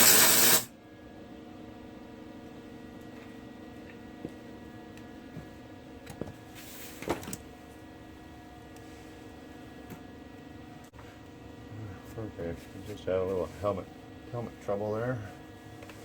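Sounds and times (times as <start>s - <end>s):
shop equipment humming: 0.0s - 16.0s.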